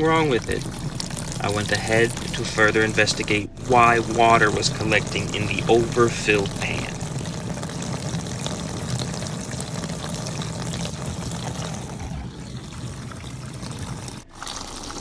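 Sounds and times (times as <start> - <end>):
pump humming: 0.0 - 15.0
water spraying inside dishwasher: 0.0 - 15.0.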